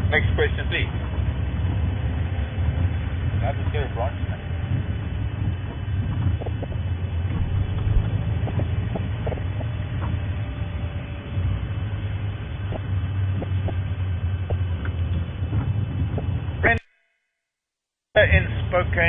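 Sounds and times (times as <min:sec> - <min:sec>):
vehicle engine rumbling: 0:00.0 - 0:16.8, 0:18.2 - 0:19.0.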